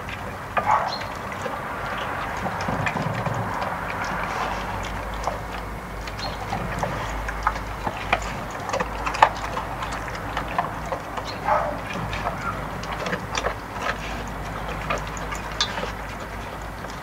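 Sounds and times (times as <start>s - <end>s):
dog eating from metal bowl: 0.0s - 17.0s.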